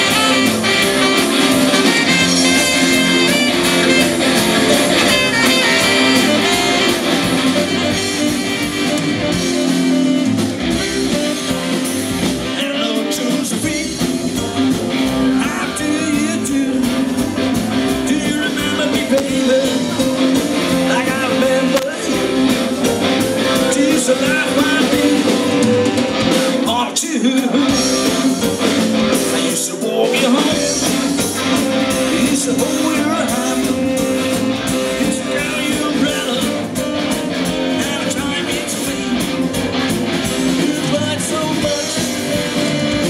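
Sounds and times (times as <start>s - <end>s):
live rock band playing: 0.0s - 43.0s
person singing: 0.0s - 43.0s.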